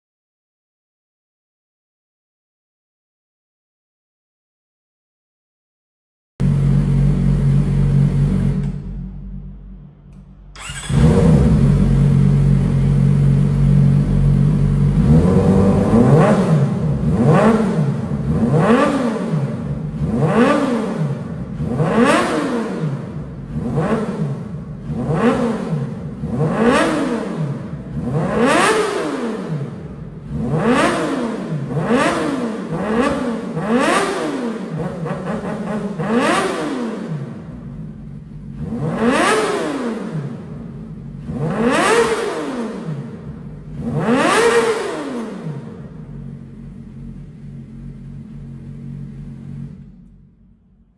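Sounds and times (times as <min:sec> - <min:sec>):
motorcycle engine revving: 0:06.4 - 0:50.9.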